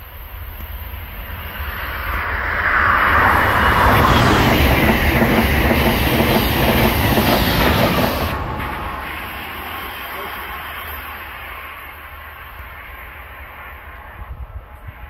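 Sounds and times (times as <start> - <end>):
high-speed train rushing past: 0.0 - 15.0
wheels clattering on rails: 0.5 - 13.0.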